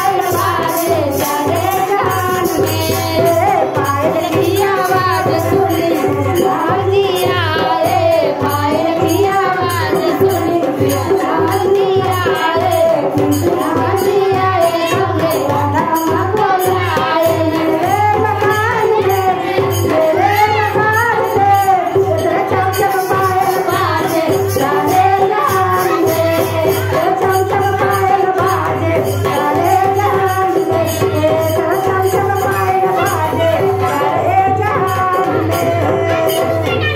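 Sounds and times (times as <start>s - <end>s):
jingling hand percussion: 0.0s - 36.9s
person singing: 0.0s - 36.9s
steady drum beat: 0.0s - 36.9s.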